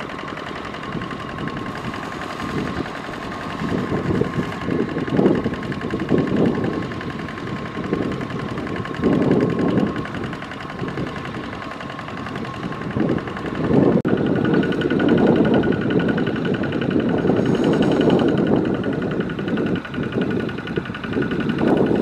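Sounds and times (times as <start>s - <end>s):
tractor diesel engine running: 0.0s - 22.0s
wheels churning through mud: 0.0s - 22.0s.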